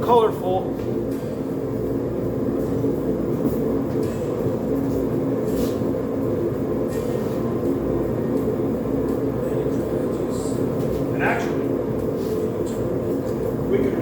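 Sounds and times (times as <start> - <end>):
gas forge burner rumbling: 0.0 - 14.0.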